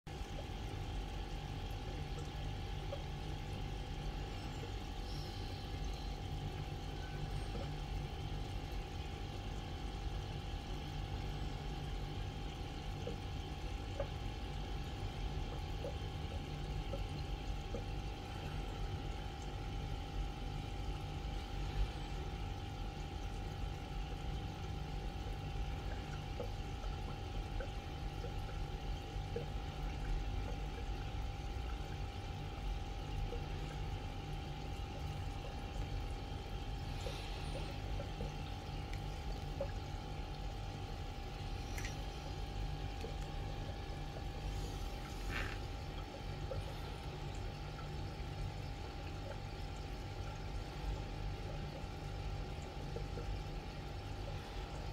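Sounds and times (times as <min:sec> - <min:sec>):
moving water: 0:00.1 - 0:54.9
water pump humming: 0:00.1 - 0:54.9.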